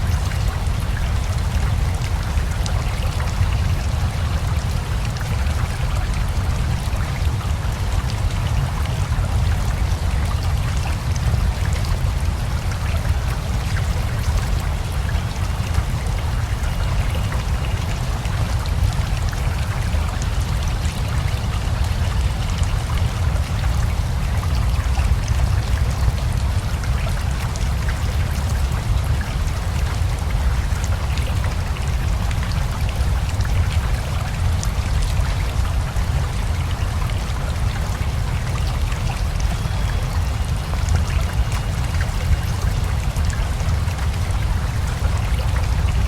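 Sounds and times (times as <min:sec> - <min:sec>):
flowing river: 0:00.0 - 0:46.0
steady rain: 0:00.0 - 0:46.0.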